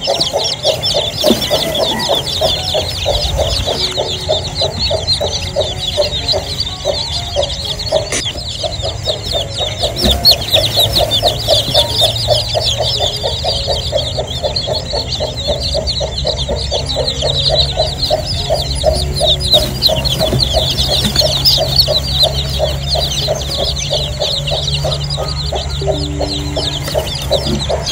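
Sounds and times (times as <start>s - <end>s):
chicks peeping: 0.0s - 27.9s
hen clucking: 0.0s - 27.9s.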